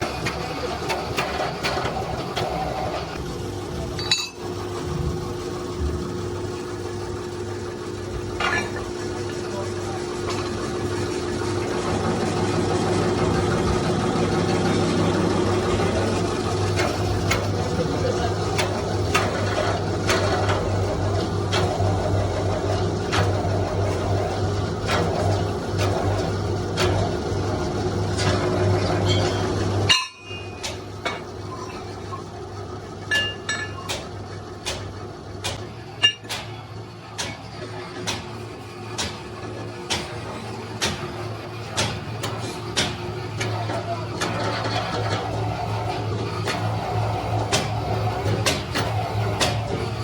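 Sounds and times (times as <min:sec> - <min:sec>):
hydraulic pump humming: 0:00.0 - 0:50.0.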